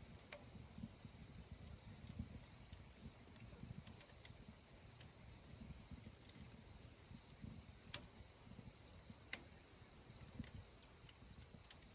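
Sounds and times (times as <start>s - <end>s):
fire popping: 0.0s - 11.9s
wood fire crackling: 0.0s - 11.9s.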